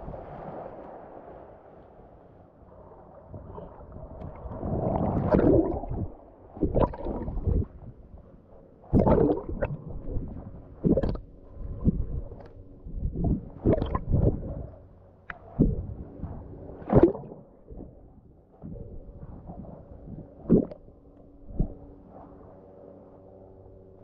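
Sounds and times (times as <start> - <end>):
underwater waves gurgling and sloshing: 0.0 - 24.0.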